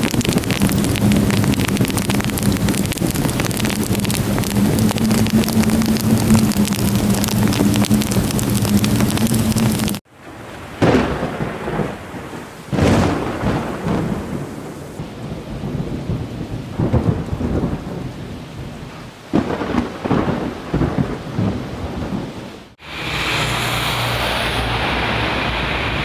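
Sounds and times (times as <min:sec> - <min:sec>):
heavy rain downpour: 0:00.0 - 0:26.0
thunder rumbling: 0:00.0 - 0:26.0.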